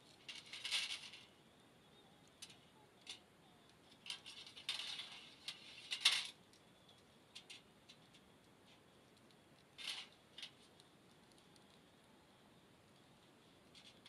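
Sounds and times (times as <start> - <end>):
wood fire clinks and ticks: 0.0 - 1.3, 2.2 - 12.1, 12.8 - 14.0.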